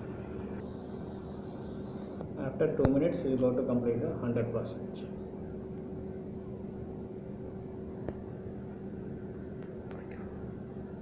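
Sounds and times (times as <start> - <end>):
low two-tone background hum: 0.0 - 11.0.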